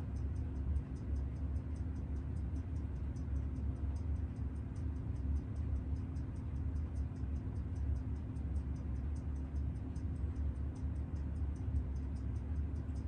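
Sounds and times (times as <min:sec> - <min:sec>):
rapid ticking: 0:00.1 - 0:13.0.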